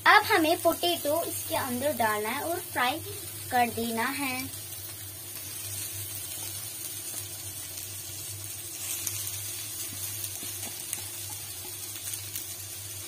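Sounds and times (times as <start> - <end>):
low steady hum: 0.0 - 13.0
vegetables sizzling in oil: 0.0 - 13.0.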